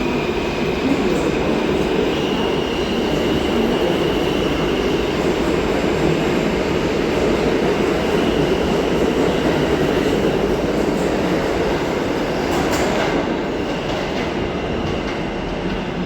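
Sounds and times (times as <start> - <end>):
subway train rumbling on rails: 0.0 - 16.0.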